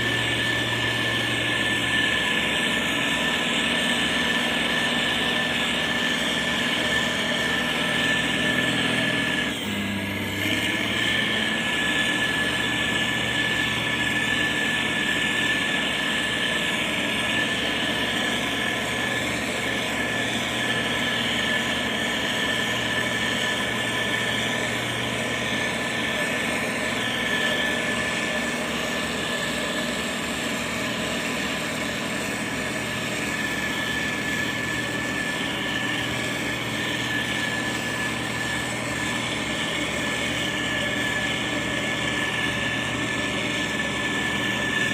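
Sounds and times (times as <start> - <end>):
diesel engine running: 0.0 - 44.9
thin high whine: 0.0 - 44.9.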